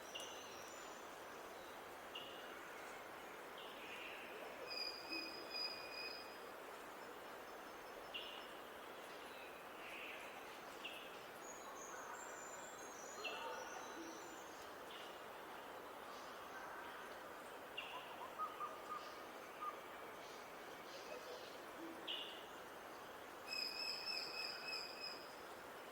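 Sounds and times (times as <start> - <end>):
steady background hiss: 0.0 - 25.9.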